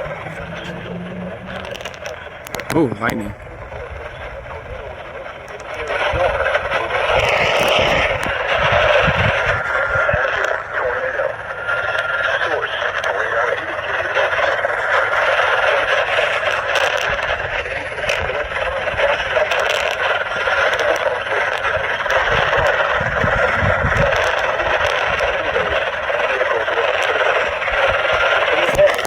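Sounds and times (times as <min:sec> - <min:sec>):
low rumble: 0:00.0 - 0:26.3
crackling clicks: 0:00.0 - 0:29.0
radio static hiss: 0:00.0 - 0:29.0.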